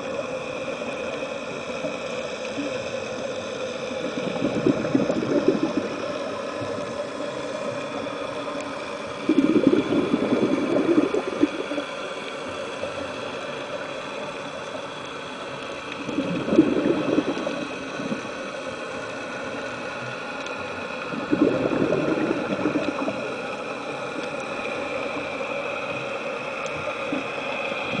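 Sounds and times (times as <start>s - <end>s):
underwater exhaled bubbles: 0.0s - 28.0s.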